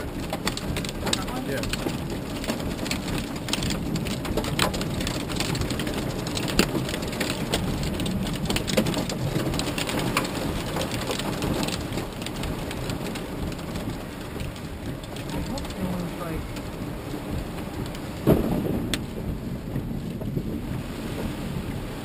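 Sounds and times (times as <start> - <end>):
heavy rain on car roof: 0.0 - 22.0
low steady rumble: 0.0 - 22.0.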